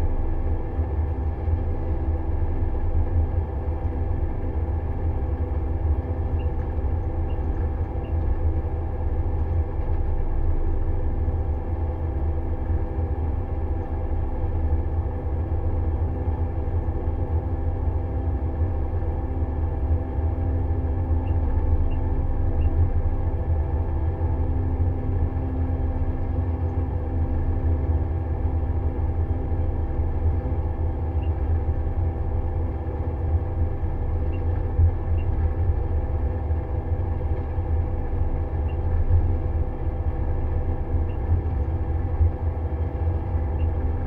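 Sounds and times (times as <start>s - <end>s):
low engine drone: 0.0s - 44.0s.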